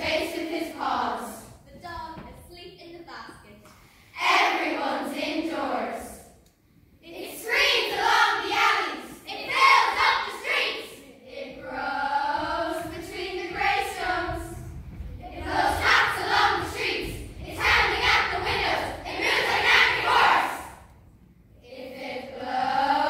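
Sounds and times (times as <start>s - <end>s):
children's choir singing: 0.0s - 1.5s, 4.1s - 6.3s, 7.0s - 20.9s, 21.6s - 23.0s.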